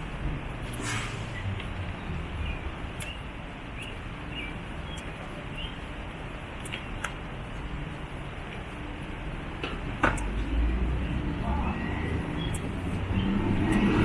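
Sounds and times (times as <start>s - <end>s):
outdoor rush of noise: 0.0s - 14.0s.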